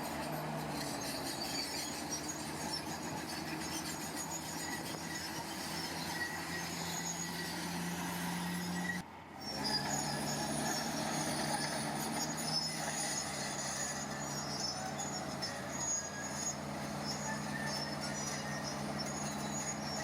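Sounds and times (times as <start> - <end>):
diesel engine running: 0.0 - 20.0
high-pitched metallic squeals: 0.0 - 20.0.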